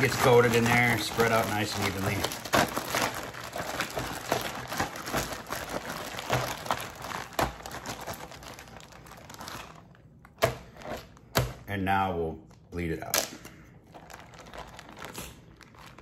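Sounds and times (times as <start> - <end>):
plastic bag crinkling: 0.0 - 11.3, 13.8 - 16.0.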